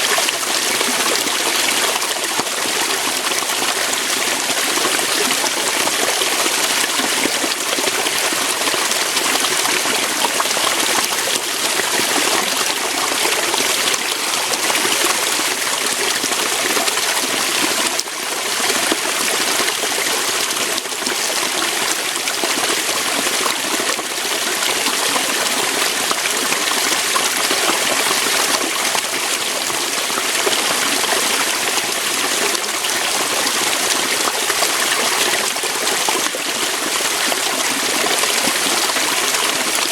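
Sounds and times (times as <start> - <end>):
water pouring over rocks: 0.0 - 39.9.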